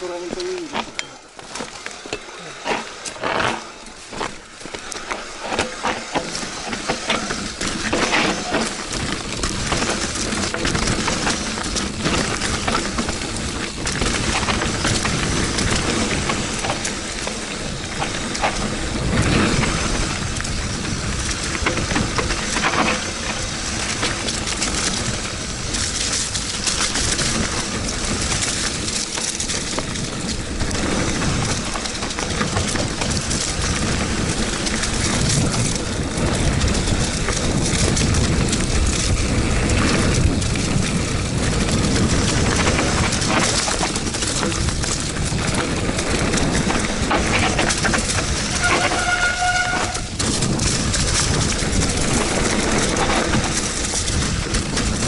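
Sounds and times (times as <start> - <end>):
mountain bike rattling: 0.0 - 55.0
tyres crunching over rocks: 0.0 - 55.0
wind on microphone: 6.9 - 55.0.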